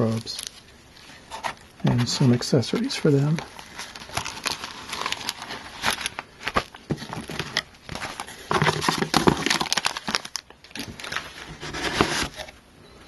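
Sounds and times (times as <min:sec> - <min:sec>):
plastic bags crinkling: 0:00.0 - 0:12.5.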